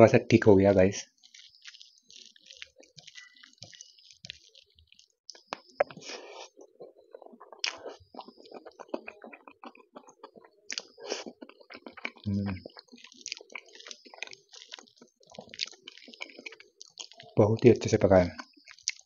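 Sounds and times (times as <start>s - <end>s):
chewing with clicks and crackles: 0.4s - 19.0s.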